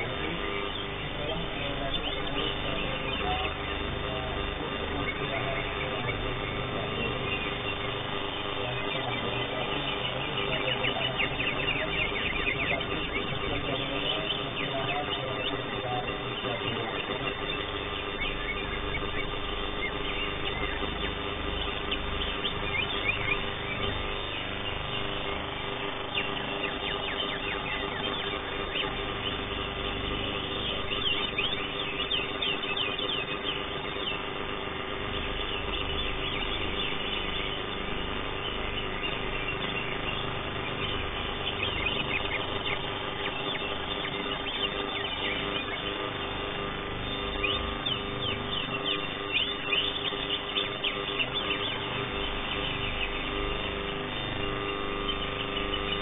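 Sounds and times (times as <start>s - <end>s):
background hum: 0.0s - 56.0s
bird singing high chirps: 0.0s - 56.0s.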